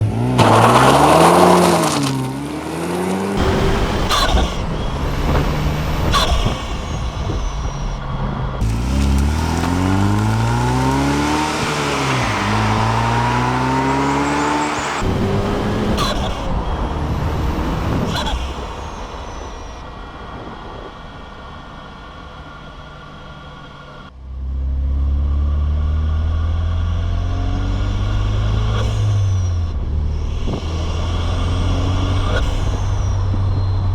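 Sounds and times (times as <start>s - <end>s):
turbo and intake noise: 0.0s - 24.2s, 25.8s - 33.9s
car engine revving through gears: 0.0s - 33.9s.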